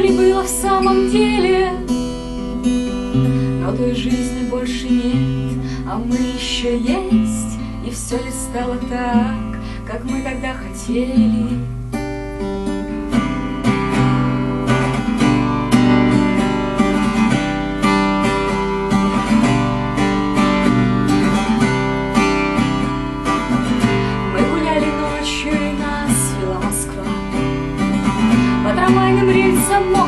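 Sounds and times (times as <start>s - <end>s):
acoustic guitar: 0.0s - 30.0s.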